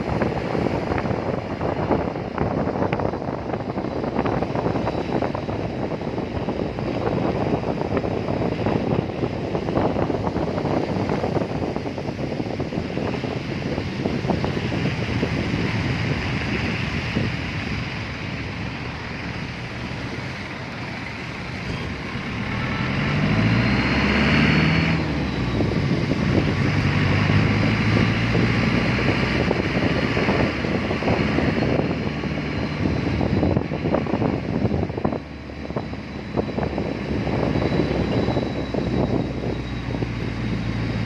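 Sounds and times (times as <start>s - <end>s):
road traffic: 0.0s - 41.0s
vehicle engine hum: 0.0s - 41.0s
wind buffeting microphone: 0.0s - 41.0s.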